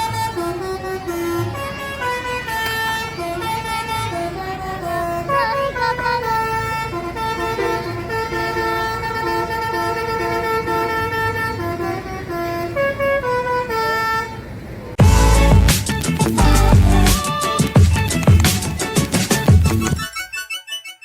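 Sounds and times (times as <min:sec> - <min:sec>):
bus air horn playing melody: 0:00.0 - 0:19.9
low rumble of bus engine: 0:00.0 - 0:20.0.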